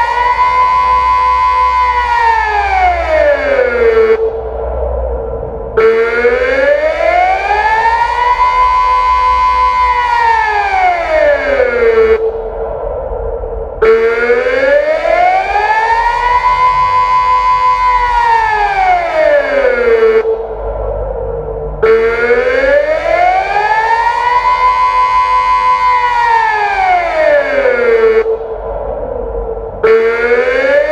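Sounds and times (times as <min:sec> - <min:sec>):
civil defence siren wailing: 0:00.0 - 0:30.9.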